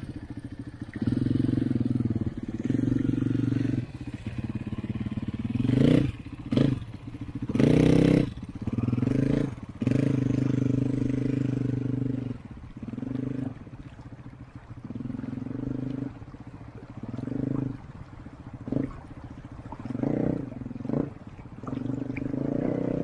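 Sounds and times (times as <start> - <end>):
motorcycle engine running: 0.0 - 23.0
motorcycle throttle blips: 0.0 - 23.0.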